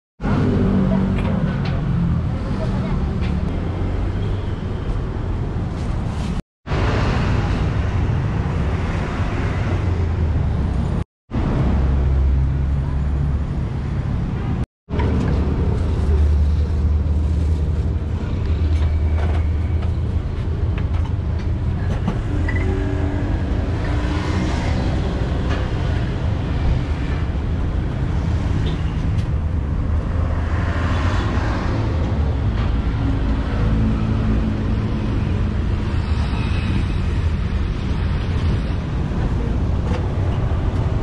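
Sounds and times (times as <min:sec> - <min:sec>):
street traffic rumble: 0:00.2 - 0:41.0.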